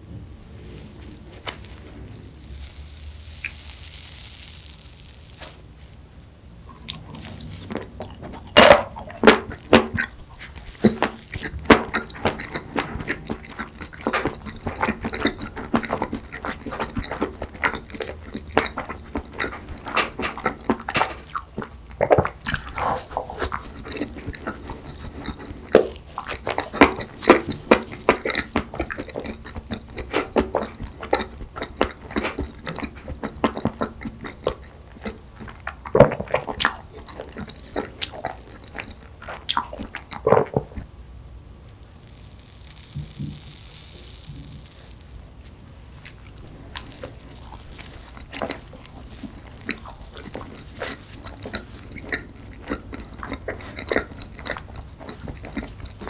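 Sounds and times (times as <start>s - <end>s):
chewing soft cake: 0.7s - 5.6s, 6.5s - 40.9s, 41.6s - 56.0s.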